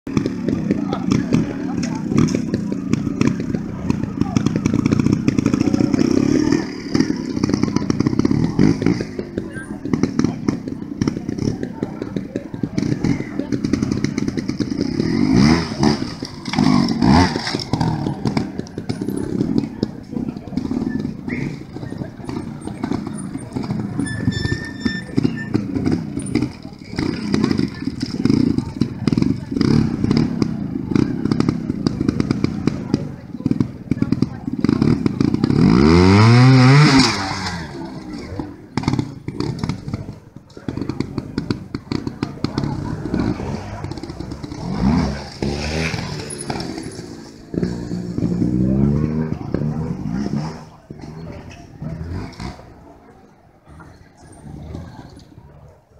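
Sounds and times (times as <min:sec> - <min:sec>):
dirt bike engine revving: 0:00.1 - 0:53.0.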